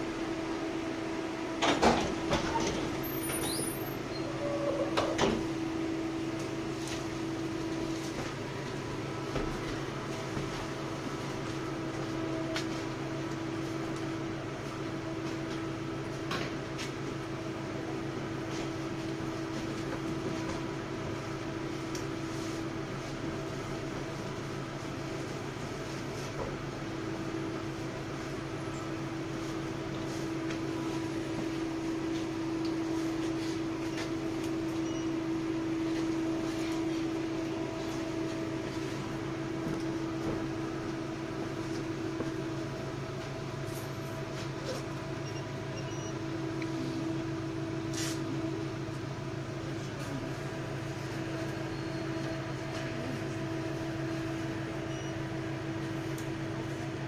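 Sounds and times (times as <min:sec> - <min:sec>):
tram electrical hum: 0:00.0 - 0:57.0.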